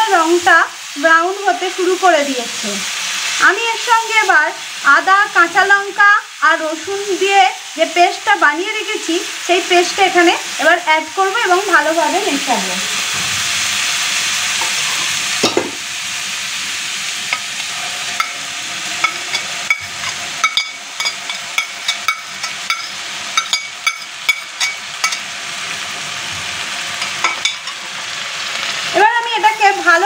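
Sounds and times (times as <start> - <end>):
paste sizzling in hot oil: 0.0 - 30.0.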